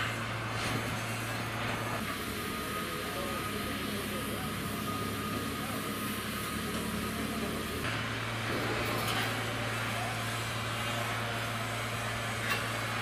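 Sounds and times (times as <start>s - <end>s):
low machine hum: 0.0s - 13.0s
shipyard machinery noise: 0.0s - 13.0s.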